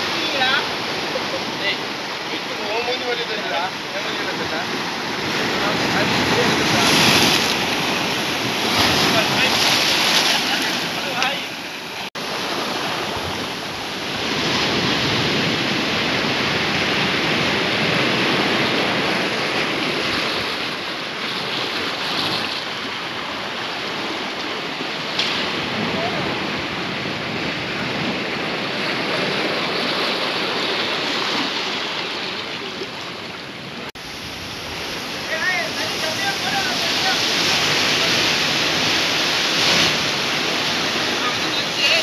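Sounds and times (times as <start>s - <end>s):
surf washing over rocks: 0.0s - 42.0s.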